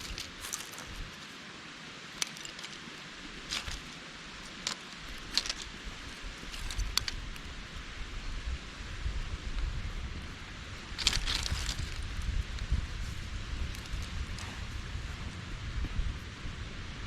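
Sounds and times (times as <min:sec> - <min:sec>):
mountain stream running: 0:00.0 - 0:15.7
wind rumble on microphone: 0:02.6 - 0:17.0.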